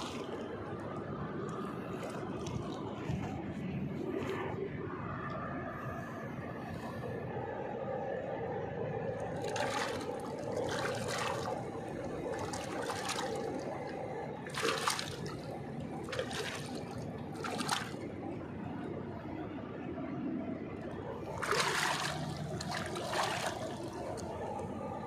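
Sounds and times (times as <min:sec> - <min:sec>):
water splashing and sloshing: 0:00.0 - 0:05.8, 0:08.9 - 0:19.2, 0:20.5 - 0:25.0
steady low drone: 0:00.0 - 0:25.0.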